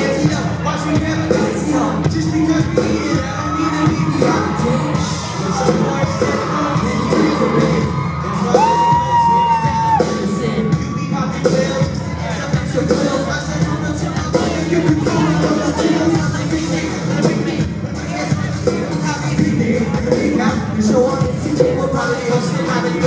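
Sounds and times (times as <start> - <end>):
crowd yelling: 0.0 - 23.0
person singing: 0.0 - 23.0
rap-pop song over sound system: 0.0 - 23.0.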